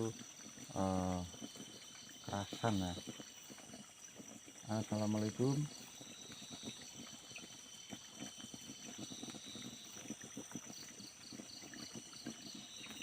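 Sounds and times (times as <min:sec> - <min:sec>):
insect buzz: 0:00.0 - 0:13.0
insect chirping: 0:00.0 - 0:13.0.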